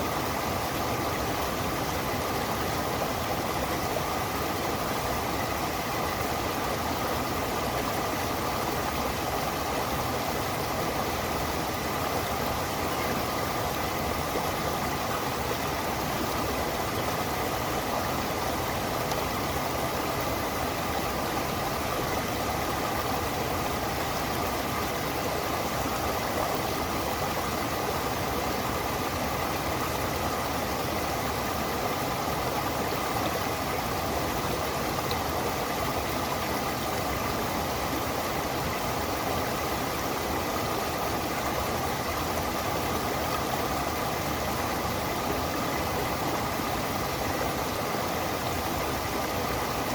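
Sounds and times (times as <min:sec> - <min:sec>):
stream water running over rocks: 0:00.0 - 0:49.9.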